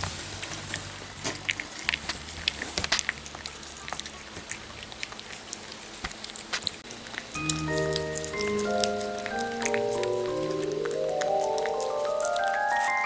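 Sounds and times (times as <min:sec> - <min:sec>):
cat chewing clicks: 0:00.5 - 0:13.0.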